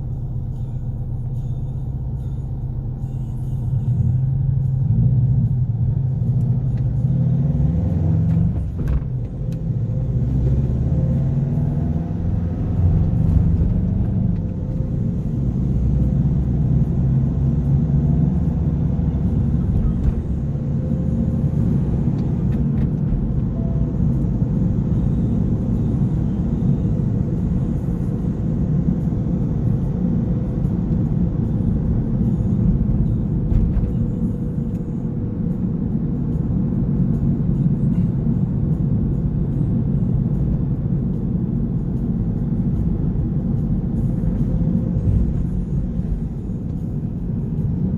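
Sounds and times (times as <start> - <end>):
car engine drone: 0.0 - 47.9
road noise: 0.0 - 47.9.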